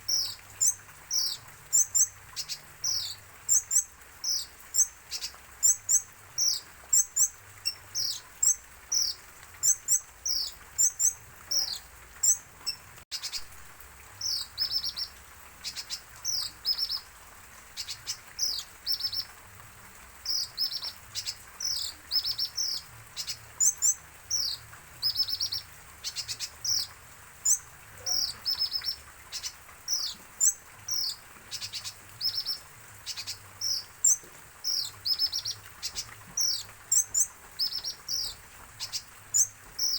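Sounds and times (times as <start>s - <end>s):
sunbird chirping: 0.0s - 13.5s, 14.2s - 17.1s, 17.8s - 19.3s, 20.2s - 39.9s.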